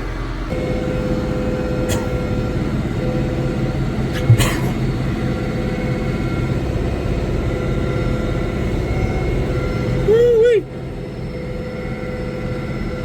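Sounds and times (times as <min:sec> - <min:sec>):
diesel tractor running: 0:00.0 - 0:13.0.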